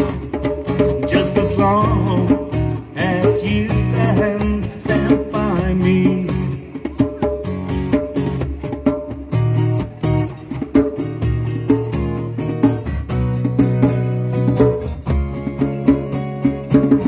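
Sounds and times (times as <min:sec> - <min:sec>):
acoustic guitar strumming: 0:00.0 - 0:17.0
djembe played by hand: 0:00.0 - 0:17.0.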